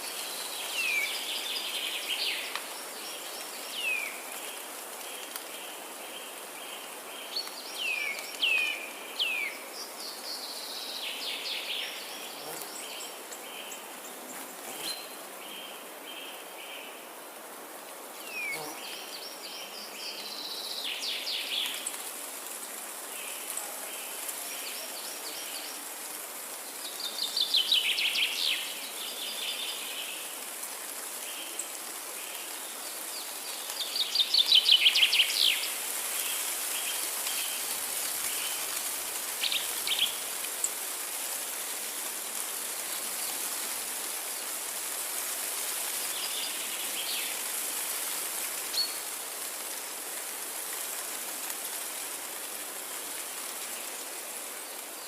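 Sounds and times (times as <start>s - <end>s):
forest ambience hiss: 0.0s - 55.0s.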